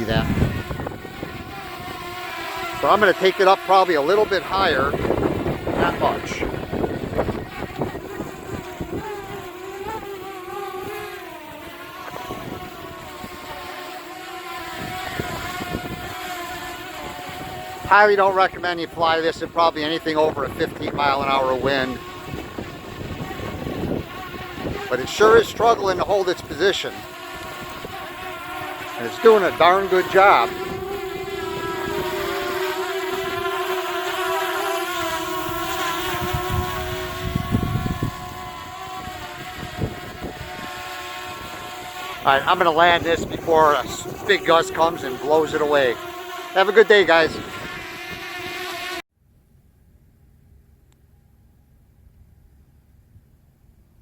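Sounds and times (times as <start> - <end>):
wind buffeting microphone: 0.0 - 3.1, 4.1 - 11.2, 12.0 - 13.6, 14.7 - 33.7, 34.5 - 46.0, 46.9 - 48.7
drone propellers whining: 0.0 - 49.0.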